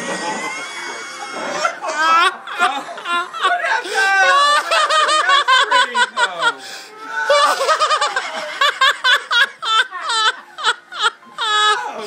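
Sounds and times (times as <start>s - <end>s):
people laughing hard: 0.0s - 12.0s.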